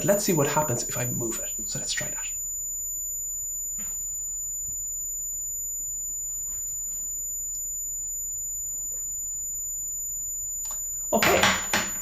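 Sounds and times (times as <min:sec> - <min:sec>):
high-pitched sine test tone: 0:00.0 - 0:12.0.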